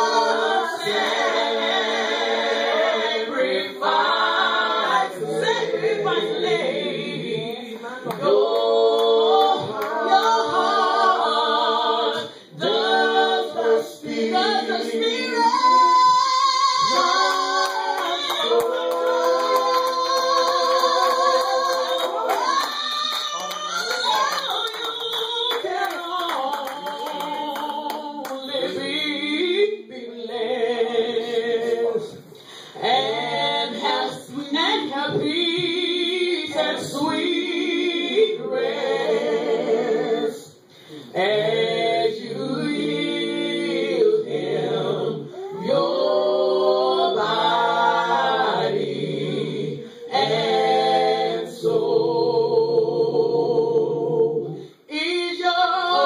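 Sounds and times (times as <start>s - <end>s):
group singing a hymn a cappella: 0.0s - 56.0s.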